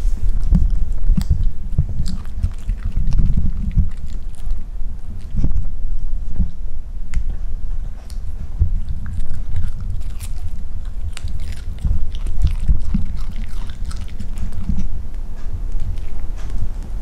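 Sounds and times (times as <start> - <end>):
puppy gnawing on a chew: 0.0 - 17.0.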